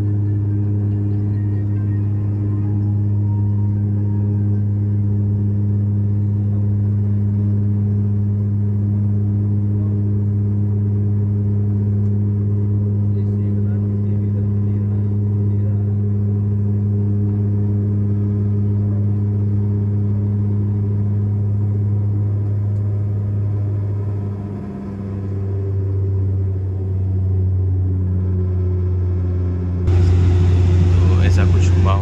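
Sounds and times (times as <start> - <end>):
propeller engines droning in cabin: 0.0 - 32.0.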